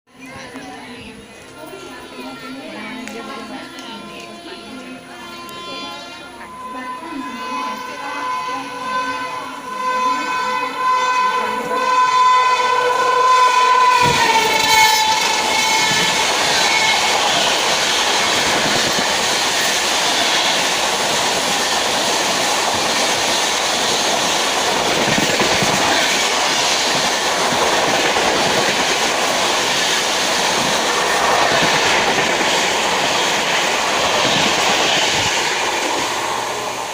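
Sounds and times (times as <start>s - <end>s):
train wheel and rail noise: 0.1s - 36.9s.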